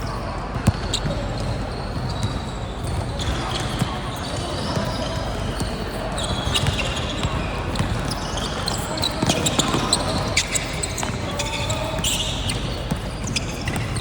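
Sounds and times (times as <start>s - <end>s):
shoe squeaks: 0.0s - 14.0s
voices of players and spectators: 0.0s - 14.0s
basketball bouncing on court: 0.4s - 14.0s.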